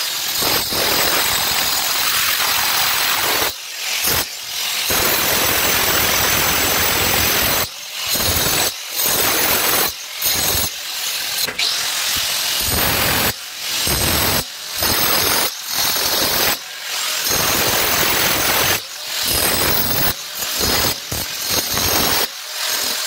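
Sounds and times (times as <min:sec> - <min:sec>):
angle grinder grinding stone: 0:00.0 - 0:23.0.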